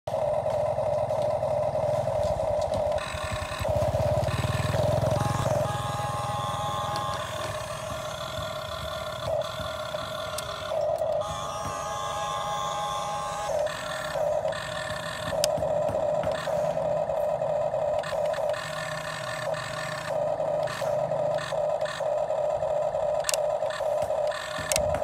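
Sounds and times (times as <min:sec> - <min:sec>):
electric motors whining: 0:00.1 - 0:25.0.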